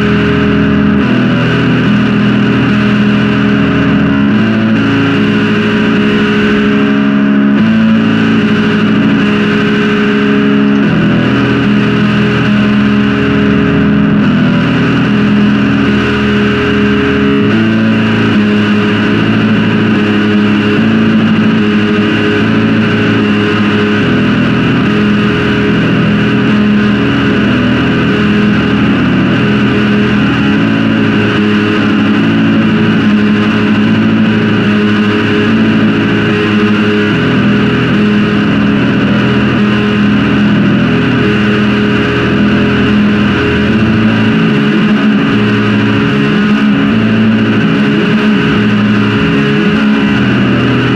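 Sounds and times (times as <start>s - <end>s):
metal music: 0.0s - 50.9s.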